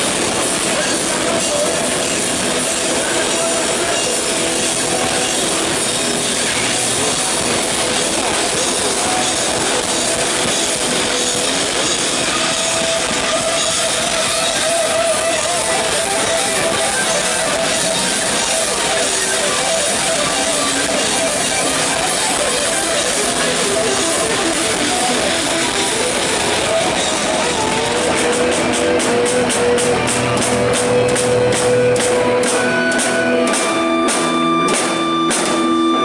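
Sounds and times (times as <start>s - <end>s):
heavy metal band playing live: 0.0s - 36.0s.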